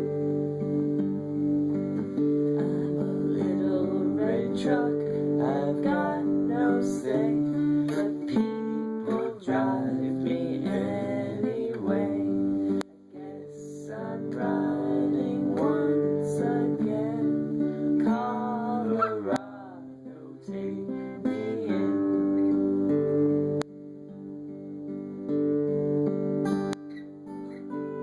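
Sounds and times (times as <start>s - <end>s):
person singing: 0.0s - 22.8s
strummed acoustic guitar: 0.0s - 28.0s.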